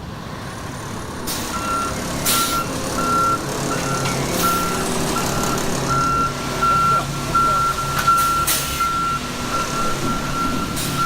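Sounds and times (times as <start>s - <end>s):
diesel engine running: 0.0s - 11.0s
reversing alarm beeping: 1.5s - 11.0s.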